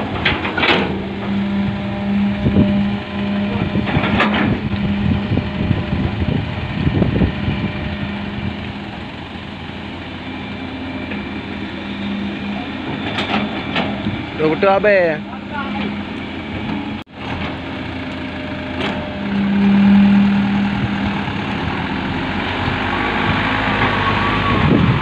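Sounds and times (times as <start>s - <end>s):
heavy equipment engine humming: 0.0s - 25.0s.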